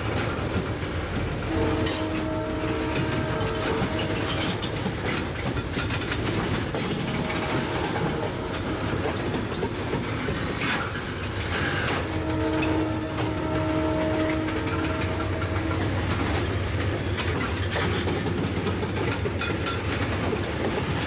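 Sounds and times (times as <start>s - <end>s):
freight train rolling past: 0.0s - 21.0s
wheels clacking over rail joints: 0.0s - 21.0s.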